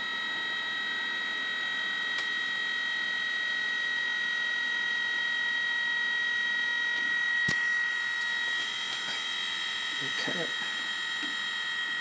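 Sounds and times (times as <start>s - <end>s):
electric motor high whine: 0.0s - 12.0s.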